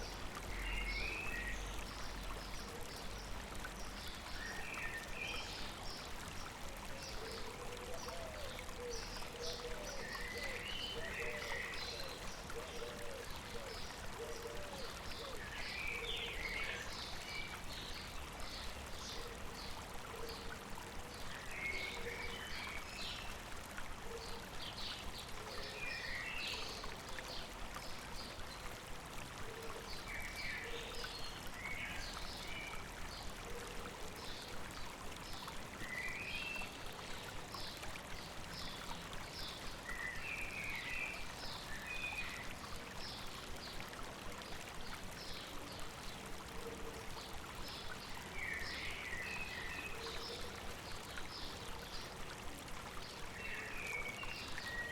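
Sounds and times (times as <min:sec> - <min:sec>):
flowing river: 0:00.0 - 0:54.9.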